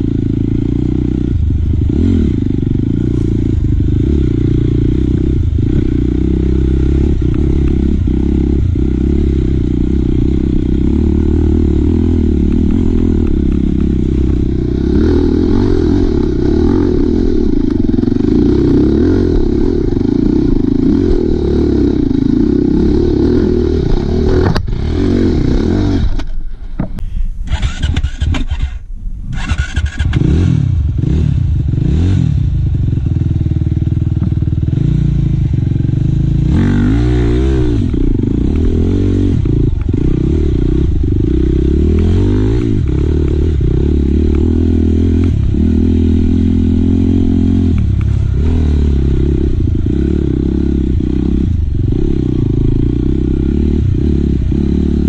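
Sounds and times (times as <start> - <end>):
dirt bike engine revving: 0.0 - 26.4, 27.4 - 55.0.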